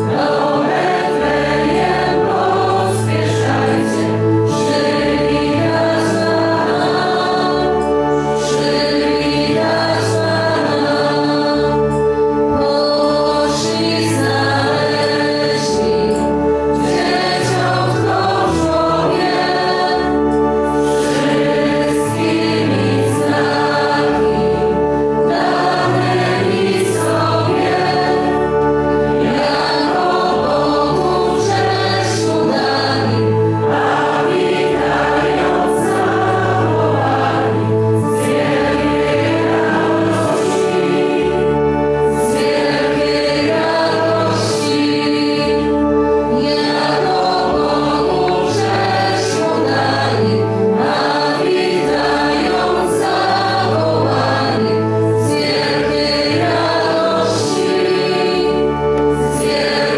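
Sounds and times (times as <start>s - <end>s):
choir singing a hymn: 0.0s - 59.9s
instrumental accompaniment: 0.0s - 59.9s.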